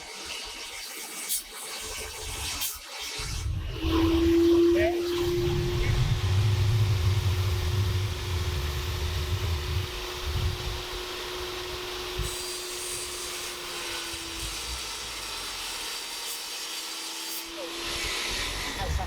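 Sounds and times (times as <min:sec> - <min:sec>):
power tool motor on wood: 0:00.0 - 0:19.0.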